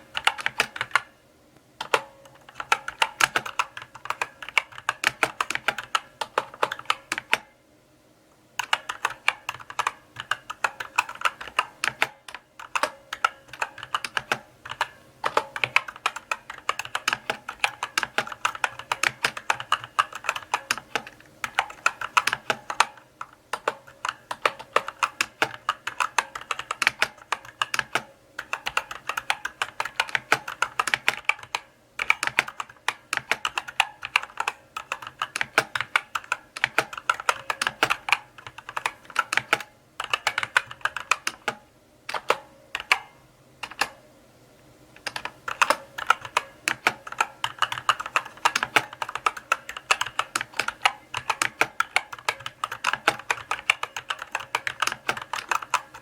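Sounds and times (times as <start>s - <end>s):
mechanical keyboard typing: 0.0s - 1.1s, 1.8s - 7.5s, 8.6s - 44.0s, 45.0s - 56.0s.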